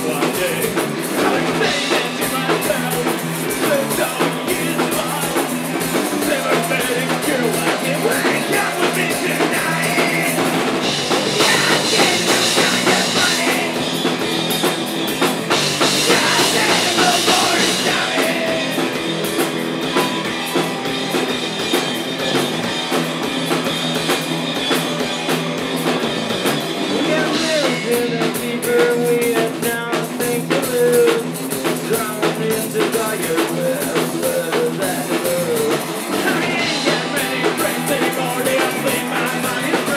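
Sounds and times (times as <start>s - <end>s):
drum kit: 0.0s - 39.9s
live rock band playing: 0.0s - 39.9s.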